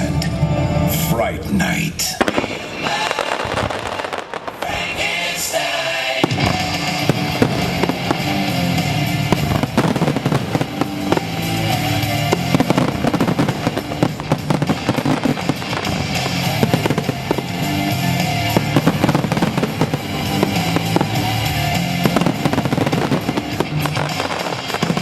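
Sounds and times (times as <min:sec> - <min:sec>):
fireworks bangs and crackling: 0:01.6 - 0:25.0
loud music with beat and bass: 0:02.2 - 0:25.0.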